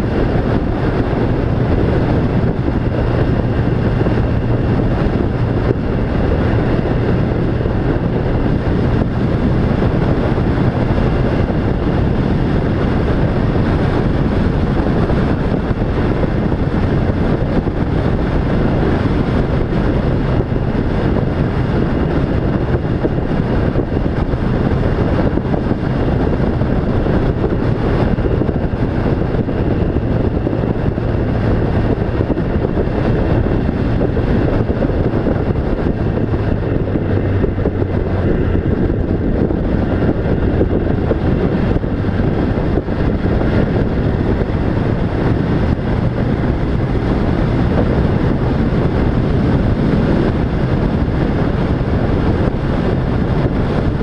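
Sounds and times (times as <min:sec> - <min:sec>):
engine humming: 0:00.0 - 0:54.0
steady rushing noise: 0:00.0 - 0:54.0.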